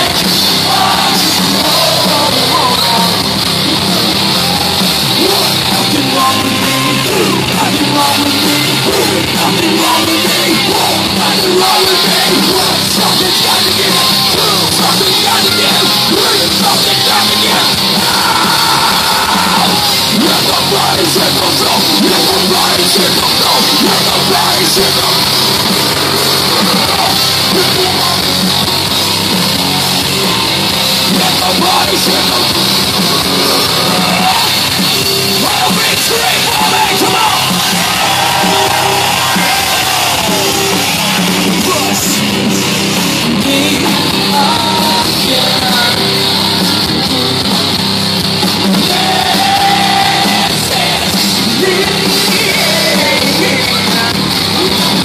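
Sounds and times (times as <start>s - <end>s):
person shouting singing: 0.0s - 28.8s, 31.0s - 47.5s, 48.7s - 55.0s
bass guitar: 0.0s - 55.0s
distorted electric guitars: 0.0s - 55.0s
drum kit: 0.0s - 55.0s.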